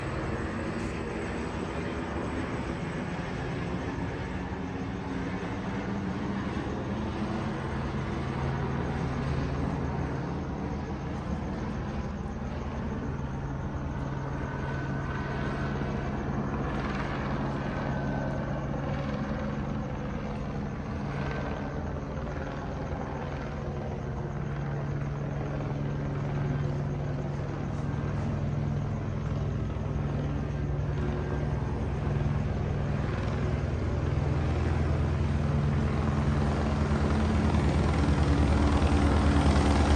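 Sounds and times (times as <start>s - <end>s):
helicopter rotor and engine droning: 0.0s - 39.9s.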